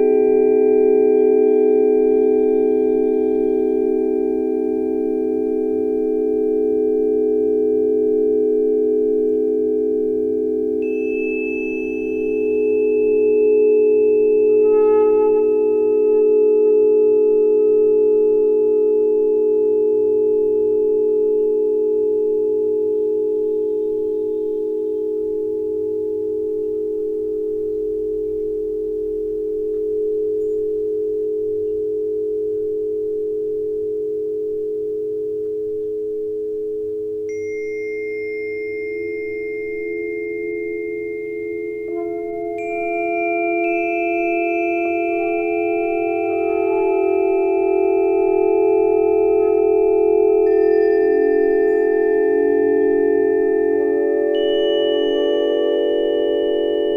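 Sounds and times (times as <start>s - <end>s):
pure ringing tones: 0.0s - 56.9s.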